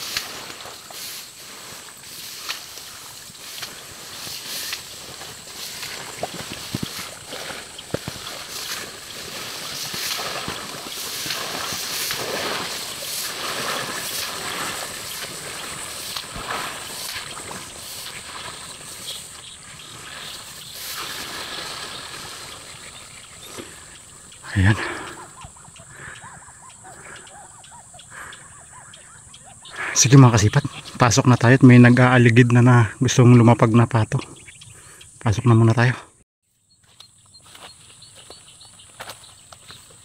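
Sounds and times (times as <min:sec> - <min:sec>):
footsteps through tall grass: 0:00.0 - 0:32.3, 0:36.5 - 0:40.0.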